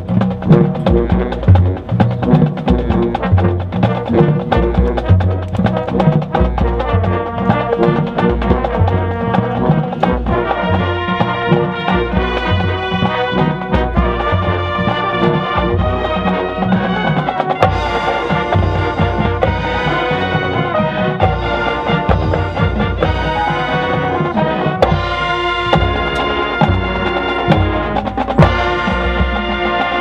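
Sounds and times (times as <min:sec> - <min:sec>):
drumline: 0:00.0 - 0:30.0
mallet percussion: 0:00.0 - 0:30.0
marching band playing: 0:00.0 - 0:30.0.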